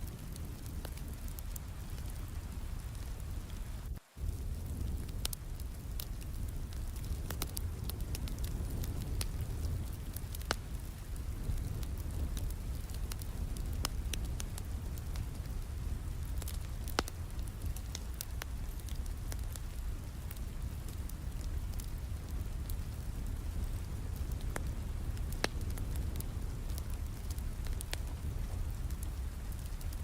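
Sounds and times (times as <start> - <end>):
sharp pops and snaps of fire: 0.0 - 30.0
wood fire crackling: 0.0 - 30.0.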